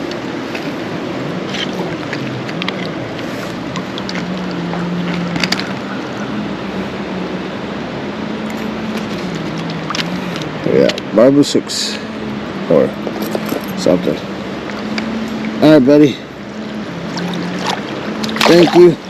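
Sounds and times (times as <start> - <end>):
faint wavering low hum: 0.0 - 19.0
stream water flowing: 0.0 - 19.0.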